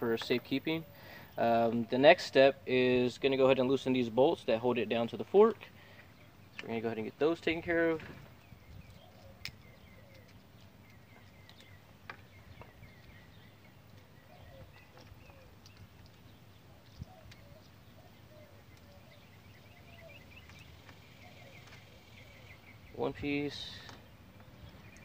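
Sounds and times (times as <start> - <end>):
faint birdsong: 0.0 - 25.0.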